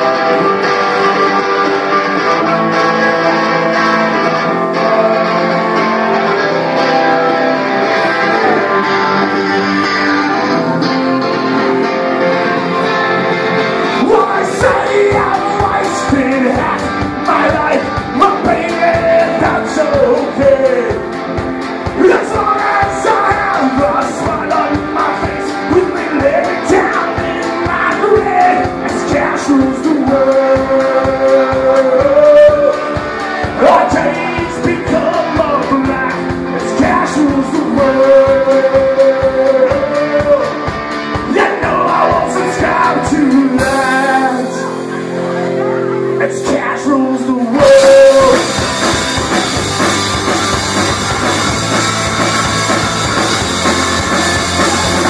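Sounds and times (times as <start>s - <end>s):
man singing: 0.0s - 10.6s, 13.6s - 21.2s, 21.9s - 48.8s
bass guitar: 0.0s - 55.0s
drums: 0.0s - 55.0s
electric guitar: 0.0s - 55.0s.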